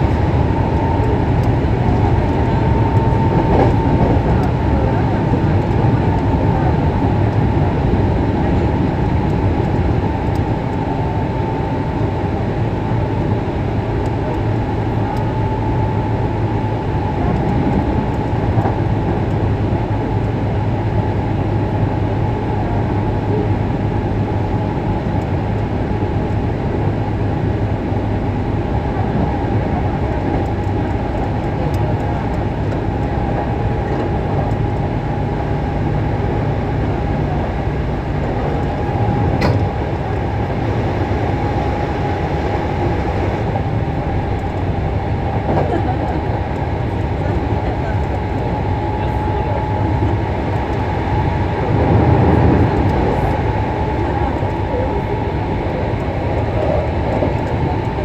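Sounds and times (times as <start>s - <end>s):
low hum: 0.0s - 58.0s
train wheels rumbling on rails: 0.0s - 58.0s.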